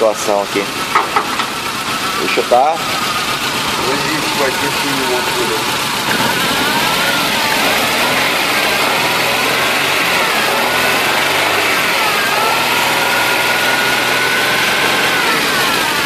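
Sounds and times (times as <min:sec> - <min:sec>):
car engine idling roughly: 0:00.0 - 0:16.0.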